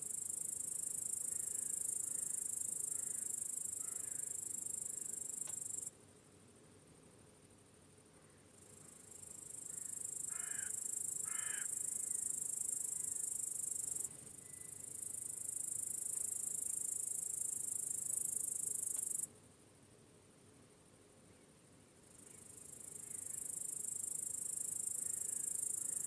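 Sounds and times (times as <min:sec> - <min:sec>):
crickets chirping: 0:00.0 - 0:19.9, 0:20.7 - 0:26.0.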